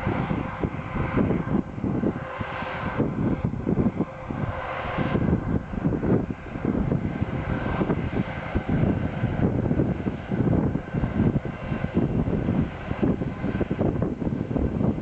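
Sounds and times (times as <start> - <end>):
airliner engines running: 0.0 - 15.0
wind buffeting microphone: 0.0 - 15.0.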